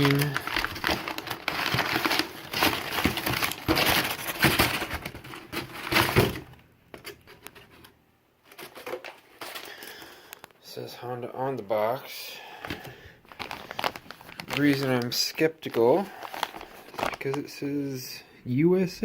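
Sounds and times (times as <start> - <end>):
packaging crinkling and rustling: 0.0 - 10.6, 12.6 - 17.6.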